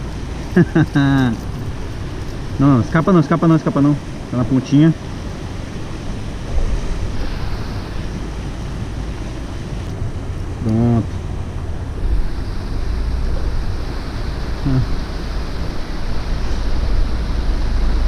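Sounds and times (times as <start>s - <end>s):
river rapids rushing: 0.0s - 18.0s
wind buffeting microphone: 0.0s - 18.0s.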